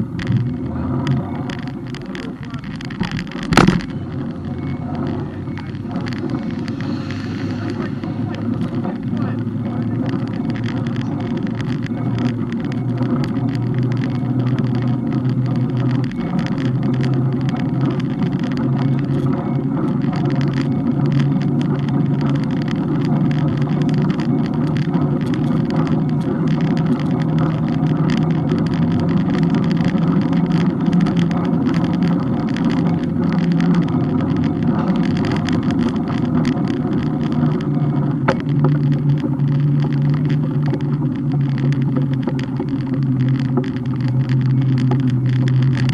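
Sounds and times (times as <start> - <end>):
bike road noise hum: 0.0 - 45.9
small clicks and rattles: 0.0 - 45.9.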